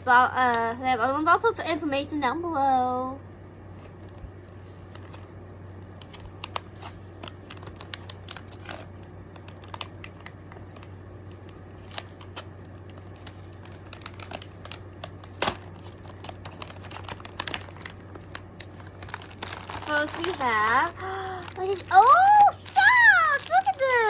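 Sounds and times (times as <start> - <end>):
steady low hum: 0.0 - 24.0
packaging rustle: 3.8 - 24.0
packaging clicks and crinkles: 3.9 - 24.0.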